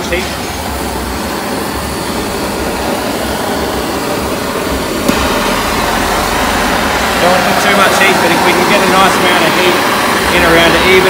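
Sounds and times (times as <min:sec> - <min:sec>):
blowtorch flame hissing: 0:00.0 - 0:11.0.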